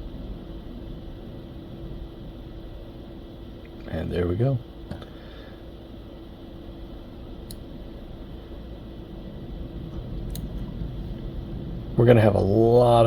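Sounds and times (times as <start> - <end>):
room tone hum and hiss: 0.0 - 13.0.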